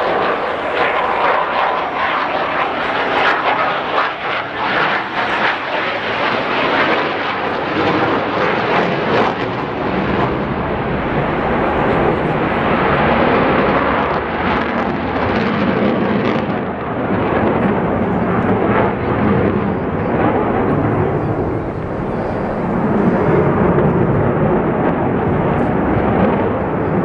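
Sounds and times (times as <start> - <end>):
jet aircraft flying past: 0.0 - 27.0.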